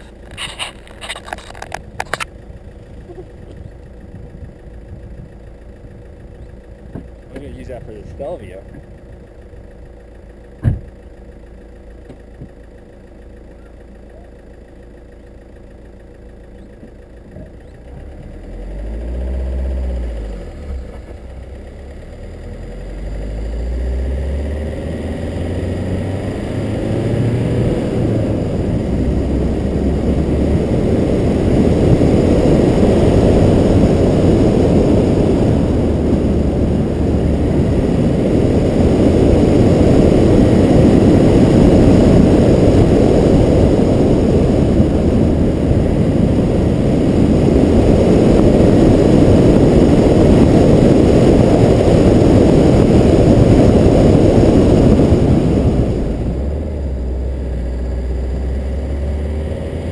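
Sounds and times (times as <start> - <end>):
car engine rising and falling: 0.0 - 59.9
rushing driving noise: 0.0 - 59.9.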